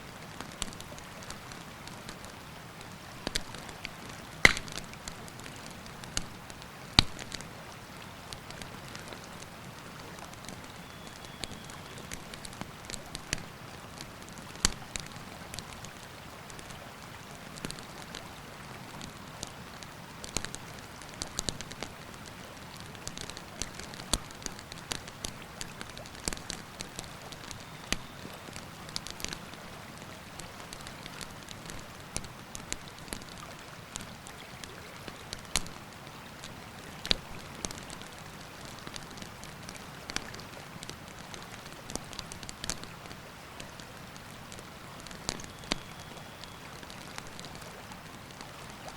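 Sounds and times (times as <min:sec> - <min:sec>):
campfire crackling and popping: 0:00.2 - 0:07.5, 0:08.2 - 0:48.9.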